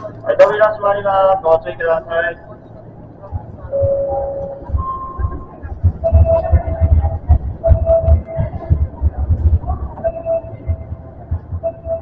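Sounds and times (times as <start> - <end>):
train rumbling with thumps: 0.0 - 12.0.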